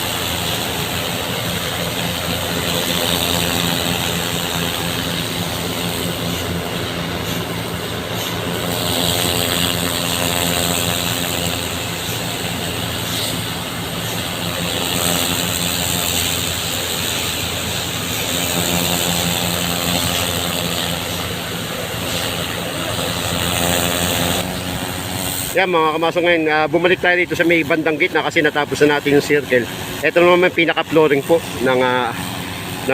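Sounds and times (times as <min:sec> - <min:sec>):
equipment engine running: 0:00.0 - 0:27.3.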